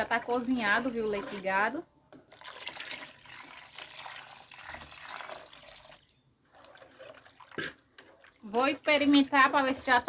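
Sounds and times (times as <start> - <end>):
milk pouring into a pot: 0.0 - 8.9.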